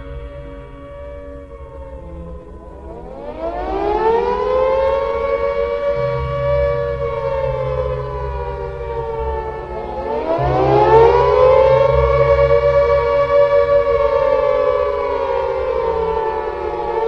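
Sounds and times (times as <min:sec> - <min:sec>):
civil defense siren: 0:00.0 - 0:17.0.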